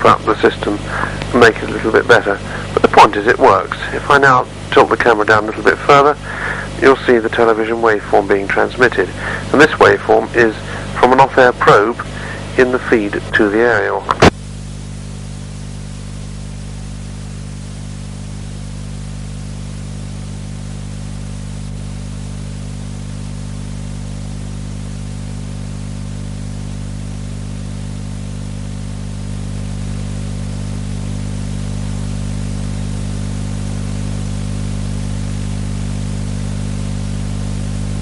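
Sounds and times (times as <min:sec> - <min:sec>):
electrical mains hum: 0:00.0 - 0:38.0
videotape hiss: 0:00.0 - 0:38.0.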